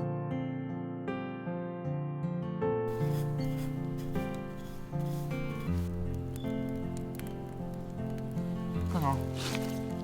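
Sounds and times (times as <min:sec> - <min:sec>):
soft acoustic guitar music: 0:00.0 - 0:10.0.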